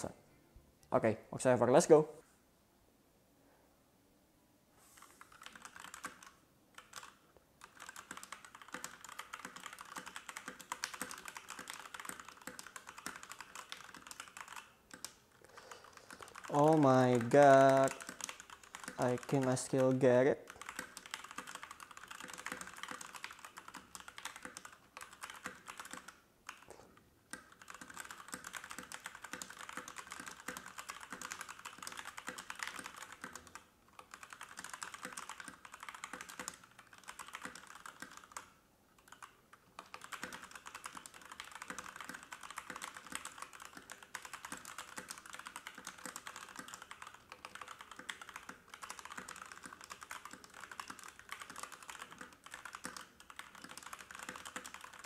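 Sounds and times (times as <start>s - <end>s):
mechanical keyboard typing: 5.0s - 26.7s, 27.3s - 55.0s.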